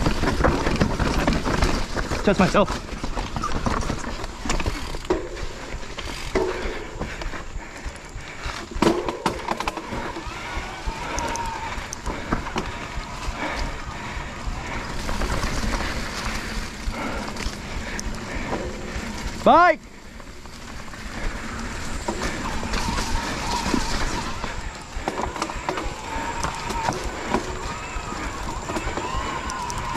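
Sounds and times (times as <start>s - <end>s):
bike knocking and rattling: 0.0s - 29.9s
bike tyres rolling over rocks: 0.0s - 29.9s.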